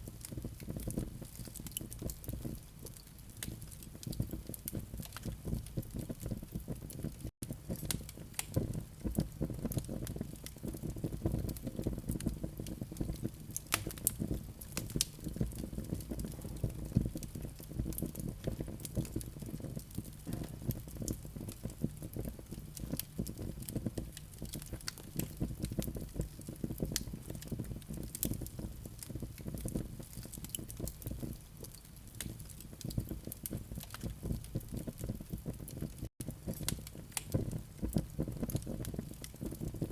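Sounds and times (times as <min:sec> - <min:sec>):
coals crackling and popping: 0:00.0 - 0:39.9
fire rumbling: 0:00.0 - 0:39.9.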